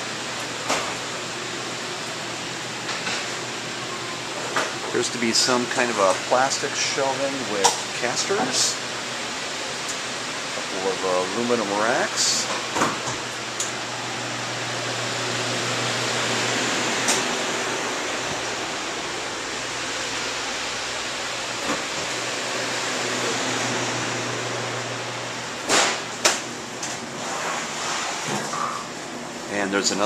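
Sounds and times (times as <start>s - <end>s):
refrigeration fans rushing: 0.0s - 30.0s.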